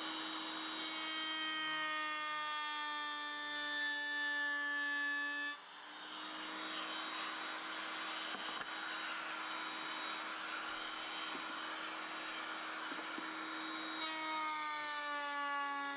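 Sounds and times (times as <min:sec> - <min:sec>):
power tool motor whining: 0:00.0 - 0:15.9.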